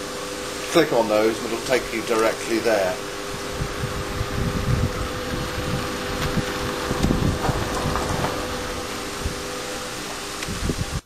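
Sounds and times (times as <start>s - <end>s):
boiler fan humming: 0.0s - 11.0s
low fire rumble: 0.0s - 11.0s.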